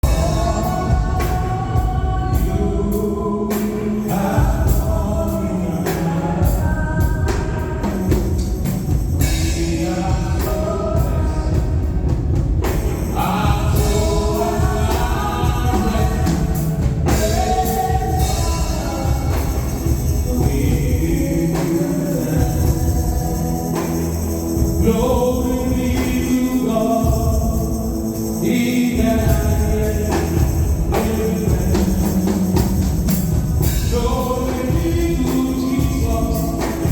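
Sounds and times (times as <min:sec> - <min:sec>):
choir singing with band: 0:00.0 - 0:36.9.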